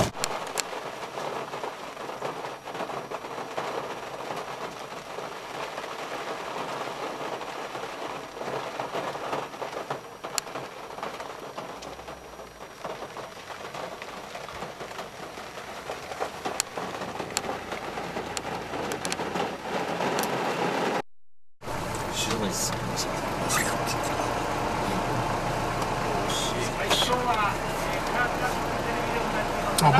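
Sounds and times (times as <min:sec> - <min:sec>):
heavy rain on car roof: 0:00.0 - 0:21.0, 0:21.6 - 0:29.9.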